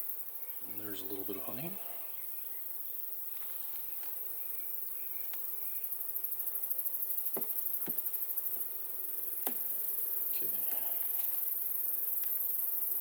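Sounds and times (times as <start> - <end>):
high insect chirring: 0.0 - 13.0.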